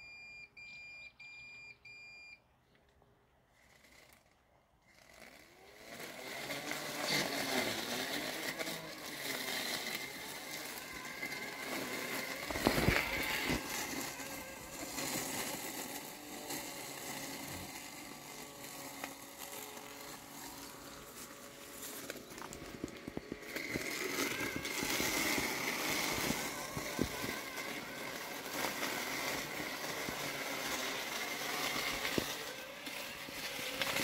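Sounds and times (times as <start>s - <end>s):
lawn mower blade motor whine: 1.5s - 34.0s
mower cutting wet weeds: 3.5s - 34.0s.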